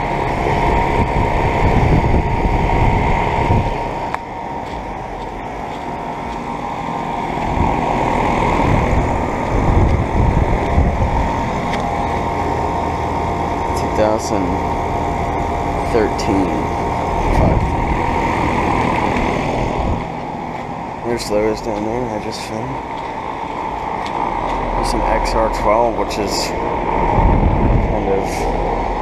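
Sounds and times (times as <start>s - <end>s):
low rumble of rushing air: 0.0s - 21.7s, 22.8s - 29.0s
air conditioner unit humming: 0.0s - 29.0s.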